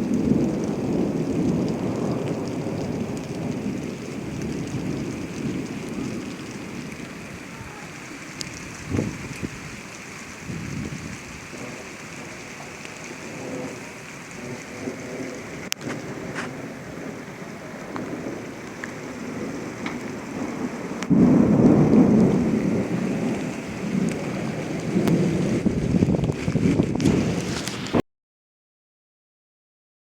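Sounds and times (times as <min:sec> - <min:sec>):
steady rain falling: 0:00.0 - 0:28.0
thunder rumble: 0:00.0 - 0:28.0.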